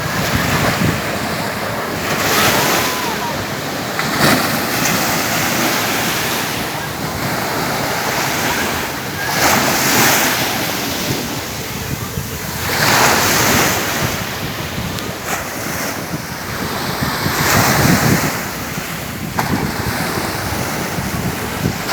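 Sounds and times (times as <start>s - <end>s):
sea waves breaking: 0.0s - 21.9s
wind buffeting microphone: 0.0s - 21.9s.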